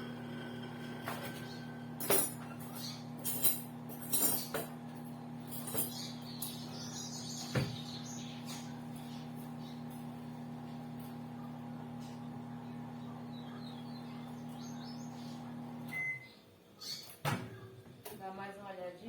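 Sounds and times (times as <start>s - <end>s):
microwave oven humming: 0.0s - 16.5s.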